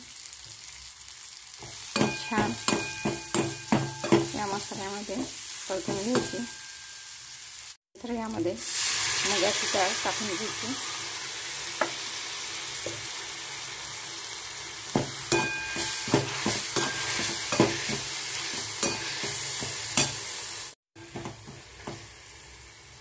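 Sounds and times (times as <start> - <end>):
lentils sizzling in hot oil: 0.0 - 23.0.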